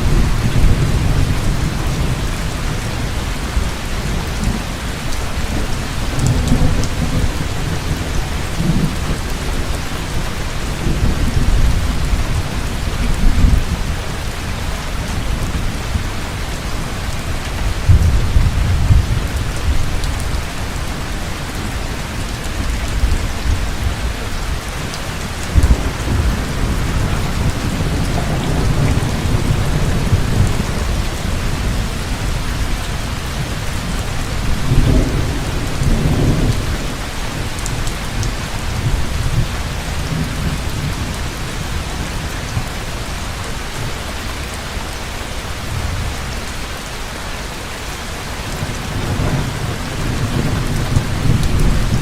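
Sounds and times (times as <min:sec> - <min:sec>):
low thunder rumbling: 0:00.0 - 0:14.3, 0:17.0 - 0:42.8, 0:48.5 - 0:52.0
heavy rain falling: 0:00.0 - 0:52.0.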